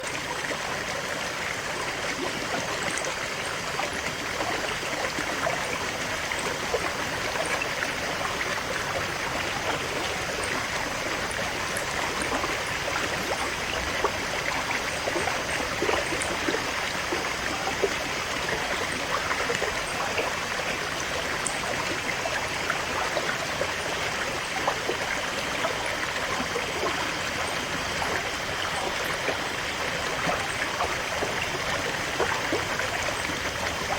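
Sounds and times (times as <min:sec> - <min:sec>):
stream flowing over rocks: 0:00.0 - 0:33.9.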